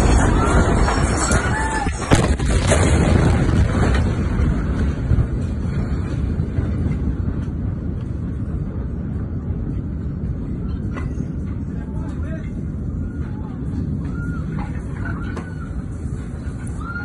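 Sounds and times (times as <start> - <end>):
explosion rumbling roar: 0.0 - 17.0
wind buffeting on microphone: 0.0 - 17.0.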